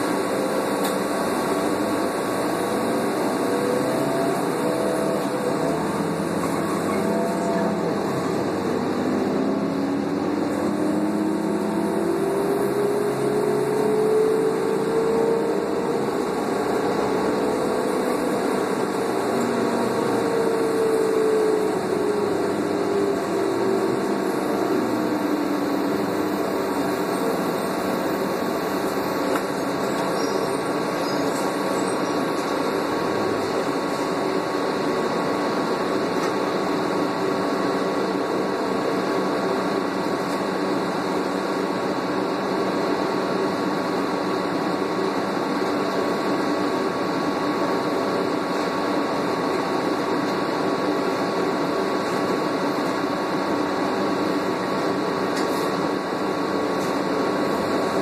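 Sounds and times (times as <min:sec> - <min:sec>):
bus drivetrain whine: 0:00.0 - 0:58.0
bus engine and road drone: 0:00.0 - 0:58.0.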